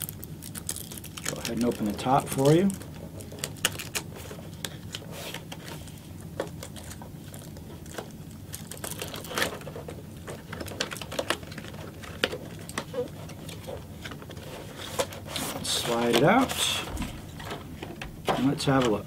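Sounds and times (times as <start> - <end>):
cardboard packaging clicks and scrapes: 0.0 - 19.0
steady low hum: 0.0 - 19.0.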